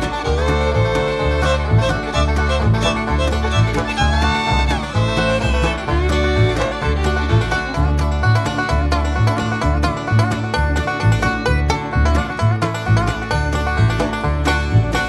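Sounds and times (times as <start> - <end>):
bluegrass banjo tune: 0.0 - 15.0
steady bass beat: 0.0 - 15.0.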